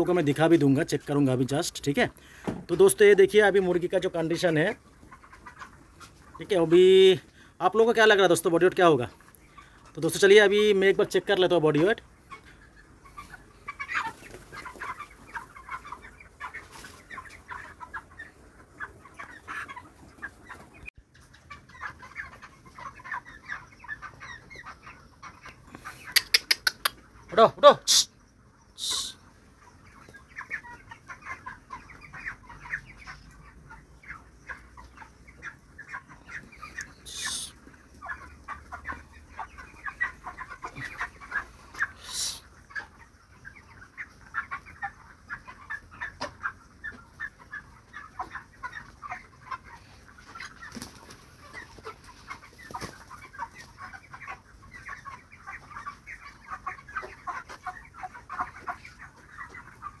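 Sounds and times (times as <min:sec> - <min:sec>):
chickens clucking and chirping: 0:00.0 - 1:00.0.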